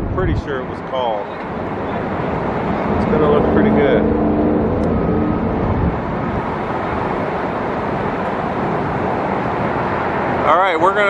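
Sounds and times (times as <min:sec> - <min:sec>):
road traffic rushing by: 0:00.0 - 0:11.0.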